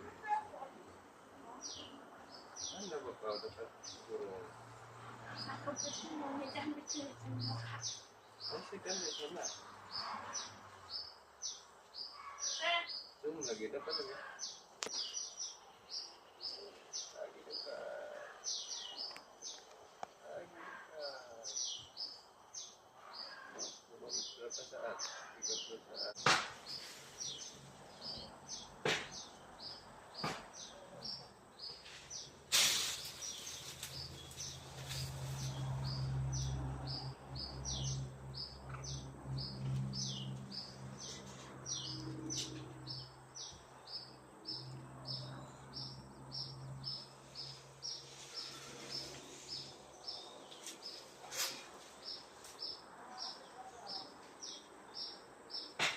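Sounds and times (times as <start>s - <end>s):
bird chirping: 1.5s - 55.9s.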